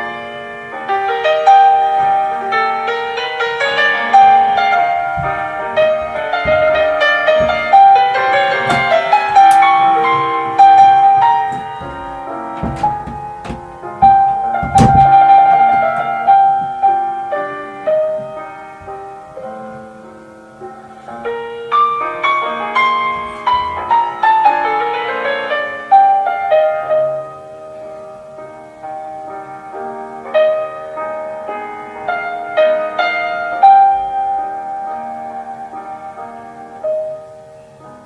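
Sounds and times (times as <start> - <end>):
slow solo piano piece: 0.0 - 38.0.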